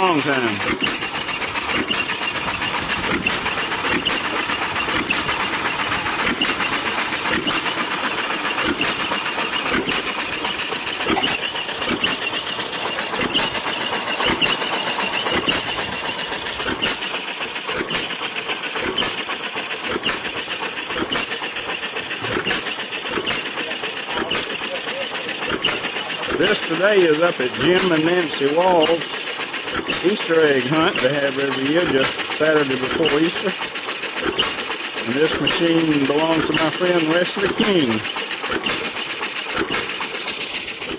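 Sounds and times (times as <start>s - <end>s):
engine firing beats: 0.0s - 40.9s
mechanical clatter: 0.0s - 40.9s.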